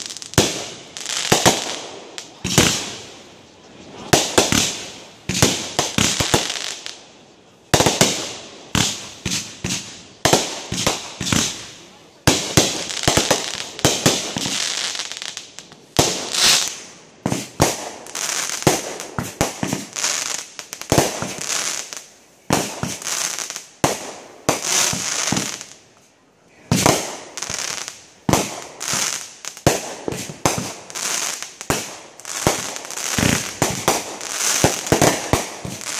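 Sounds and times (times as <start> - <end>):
fireworks bangs: 0.0 - 7.0, 7.6 - 25.8, 26.6 - 35.9
fireworks crackling and hissing: 0.0 - 35.9.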